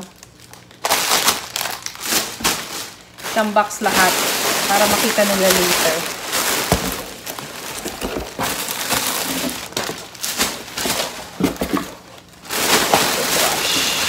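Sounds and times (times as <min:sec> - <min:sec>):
plastic packages crinkling: 0:00.0 - 0:14.0.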